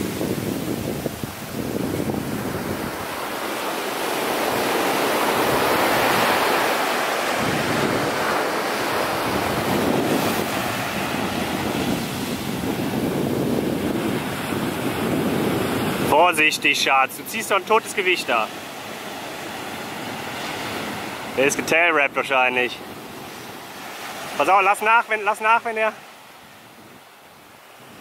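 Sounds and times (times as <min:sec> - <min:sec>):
wind buffeting microphone: 0:00.0 - 0:16.4, 0:18.5 - 0:24.4, 0:26.4 - 0:28.0
ocean surf breaking on beach: 0:00.0 - 0:28.0.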